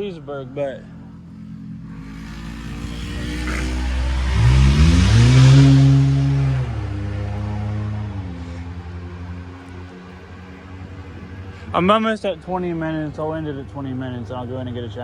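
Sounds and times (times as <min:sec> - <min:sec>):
engine revving up: 0:00.0 - 0:15.0
vehicle driving past: 0:00.0 - 0:15.0.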